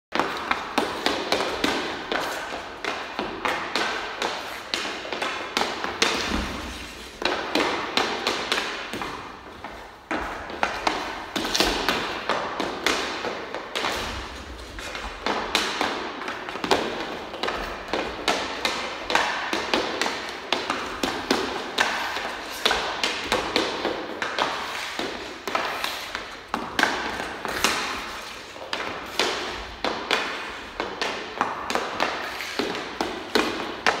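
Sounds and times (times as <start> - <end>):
hockey stick clacking pucks: 0.1 - 34.0
skate blades scraping plastic: 0.2 - 34.0.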